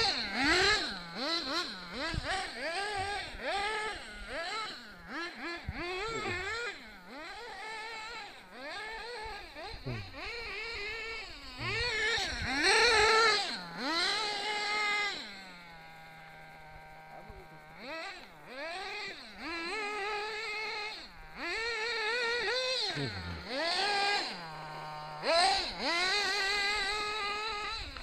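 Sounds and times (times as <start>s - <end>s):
model car engine revving: 0.0s - 28.0s.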